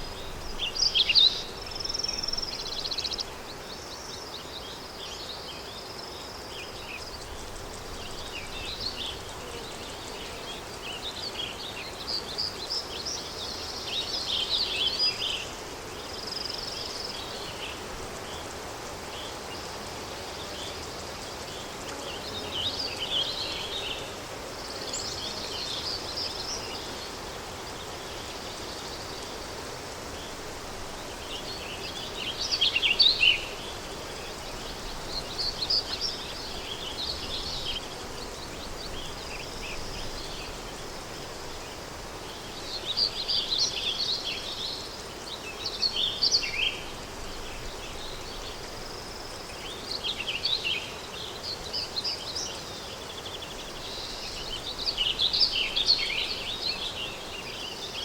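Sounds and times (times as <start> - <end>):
small birds chirping: 0.0 - 58.0
wind: 0.0 - 58.0.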